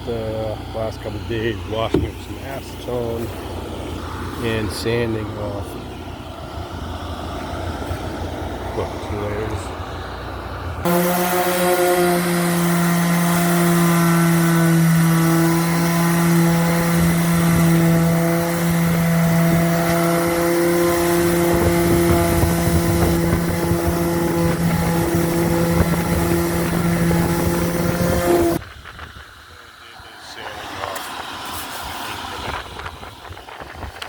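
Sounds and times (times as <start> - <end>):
power sander on fibreglass: 0.0 - 9.6, 10.8 - 28.6, 30.3 - 34.0.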